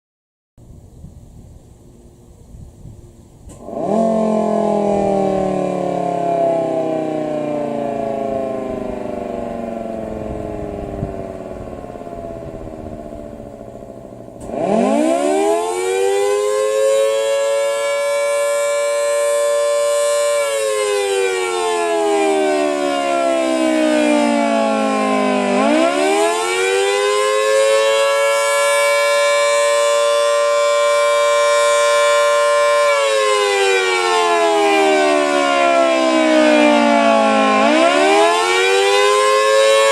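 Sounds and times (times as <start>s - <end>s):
tornado siren wailing: 3.5s - 39.9s.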